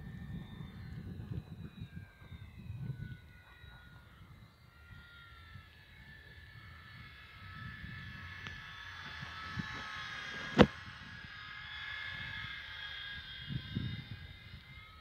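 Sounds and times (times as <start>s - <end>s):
model plane propellers whining: 0.0s - 15.0s.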